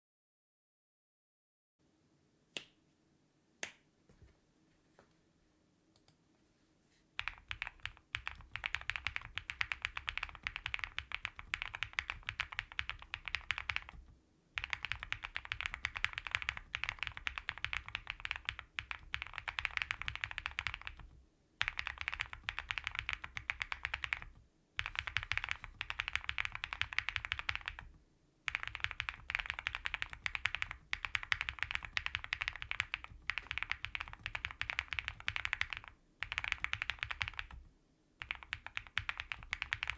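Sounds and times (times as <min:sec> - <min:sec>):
fast typing on mechanical keyboard: 0:07.2 - 0:39.9.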